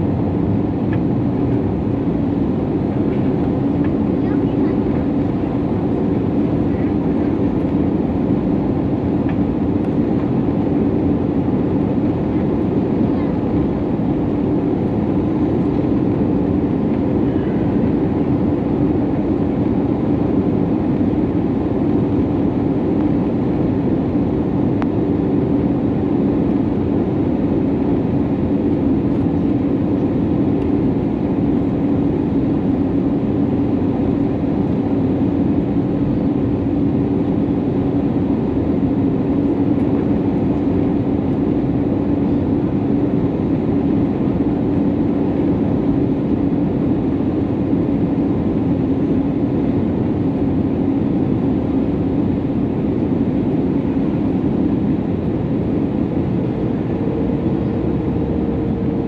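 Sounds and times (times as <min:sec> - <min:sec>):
jet engines droning: 0:00.0 - 0:59.0
steady low hum: 0:00.0 - 0:59.0.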